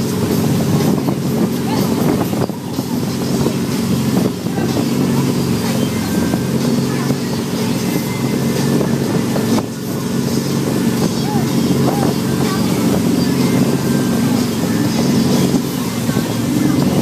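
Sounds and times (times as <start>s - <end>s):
boat engine running: 0.0s - 17.0s
churning wake water: 0.0s - 17.0s
wind buffeting microphone: 0.0s - 17.0s.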